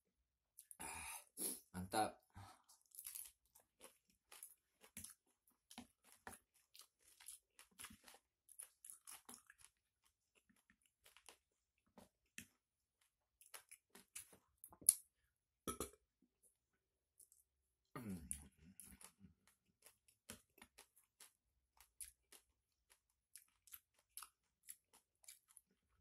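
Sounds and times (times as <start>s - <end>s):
person chewing and crunching food: 0.6s - 1.6s, 2.5s - 15.9s, 17.2s - 26.0s.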